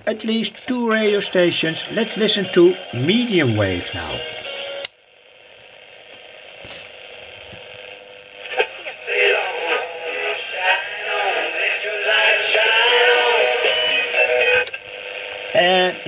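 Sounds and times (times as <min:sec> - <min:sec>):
am radio music with singing: 0:00.0 - 0:16.0
faint radio hiss: 0:00.0 - 0:16.0.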